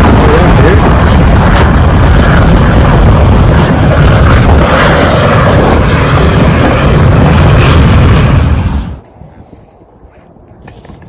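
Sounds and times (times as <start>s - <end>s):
vehicle driving at highway speed: 0.0s - 9.0s
road and wind noise: 0.0s - 11.0s.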